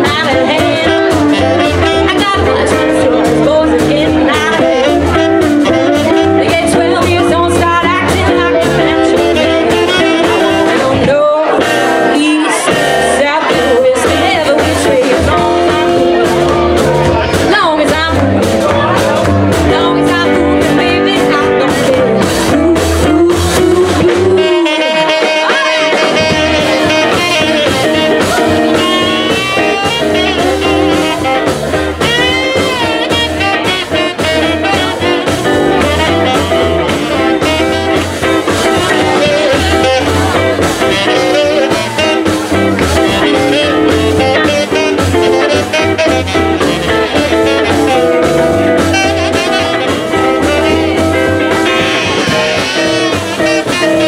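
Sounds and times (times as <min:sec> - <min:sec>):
jazz blues band playing: 0:00.0 - 0:54.0.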